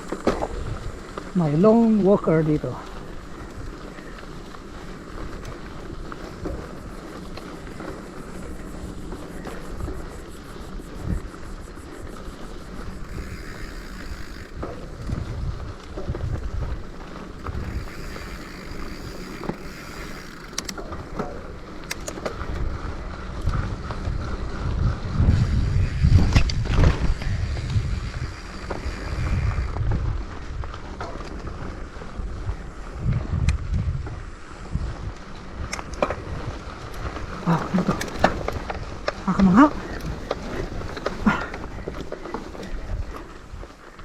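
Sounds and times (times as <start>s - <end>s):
bike clicks and rattles: 0.0s - 44.0s
wind buffeting microphone: 0.0s - 44.0s.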